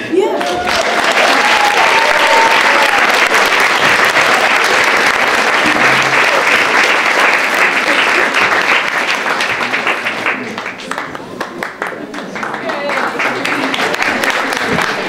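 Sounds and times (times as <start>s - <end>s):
audience applauding: 0.3s - 15.0s.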